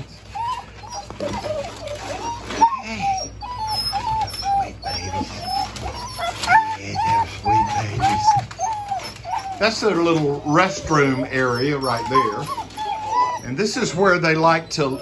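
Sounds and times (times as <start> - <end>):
puppies whimpering: 0.0 - 15.0.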